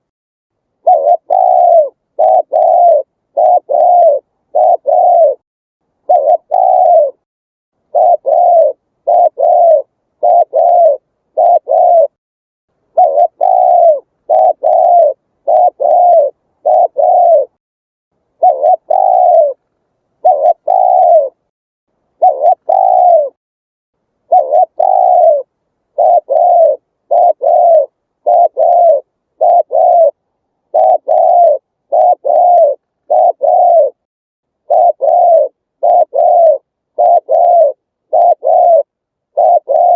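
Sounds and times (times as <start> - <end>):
dove cooing: 0.8 - 5.4, 6.0 - 7.2, 7.8 - 12.2, 12.9 - 17.6, 18.4 - 19.6, 20.2 - 21.5, 22.2 - 23.4, 24.3 - 34.0, 34.6 - 39.9.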